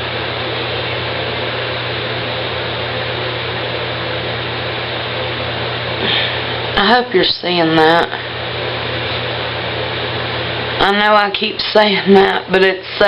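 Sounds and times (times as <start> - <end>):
constant low hum: 0.0 - 13.0
steady fan hiss: 0.0 - 13.0.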